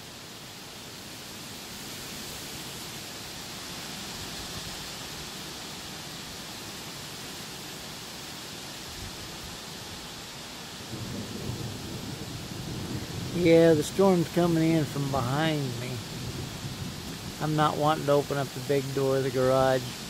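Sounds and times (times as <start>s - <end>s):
strong wind through trees: 0.0s - 20.0s.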